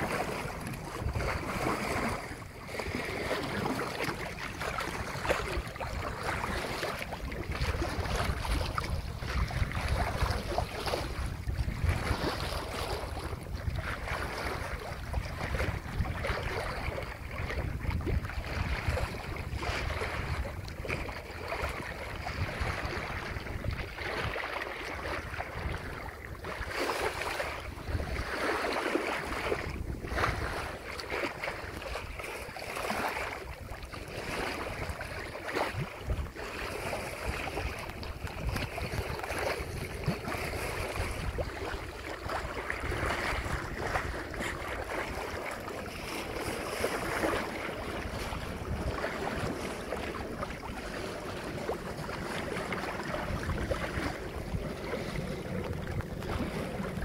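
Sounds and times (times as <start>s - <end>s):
water rushing along a hull: 0.0s - 57.0s
wind buffeting the microphone: 0.0s - 57.0s.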